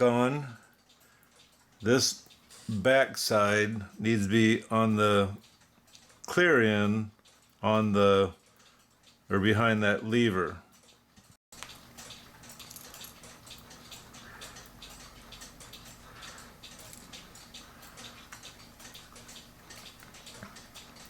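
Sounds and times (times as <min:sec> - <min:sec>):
cuckoo clock movement clicking: 0:00.0 - 0:21.0.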